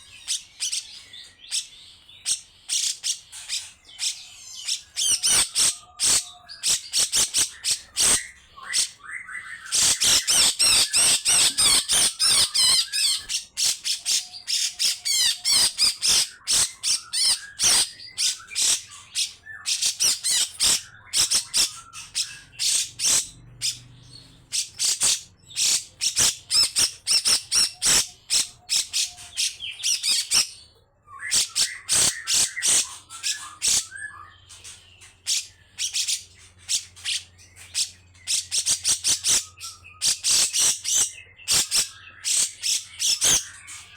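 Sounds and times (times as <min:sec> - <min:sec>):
bird harsh rasping calls: 0:00.0 - 0:43.9
bird high chattering song: 0:00.0 - 0:43.9.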